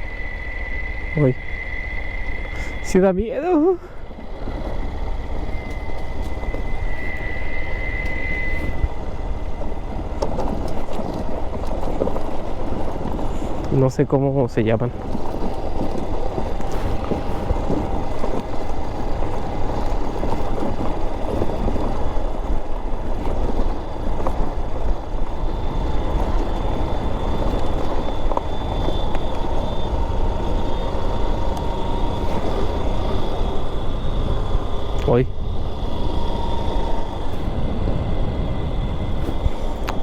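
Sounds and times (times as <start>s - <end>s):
insects whistling drone: 0.0s - 40.0s
motorcycle engine running: 2.2s - 40.0s.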